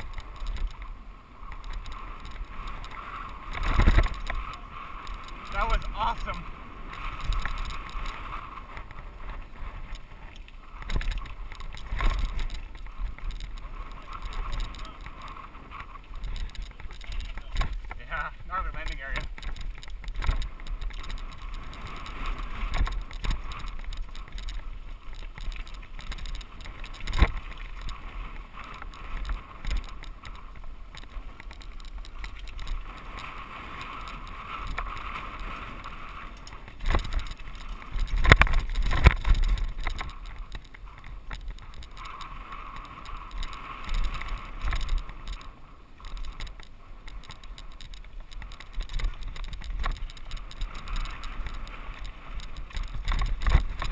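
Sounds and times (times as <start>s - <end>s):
bike rattling: 0.0s - 53.9s
wind and tyre noise: 0.0s - 53.9s.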